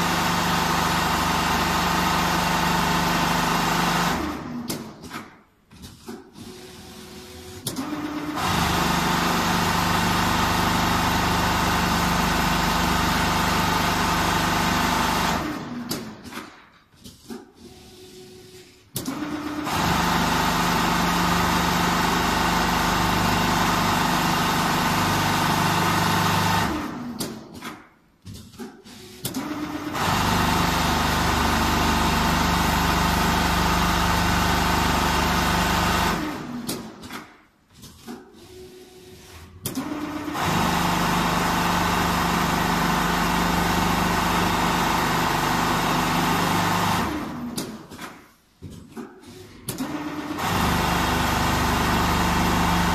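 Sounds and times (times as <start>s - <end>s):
sewing machine stitching: 0.0s - 27.8s, 28.6s - 48.3s, 49.0s - 52.9s.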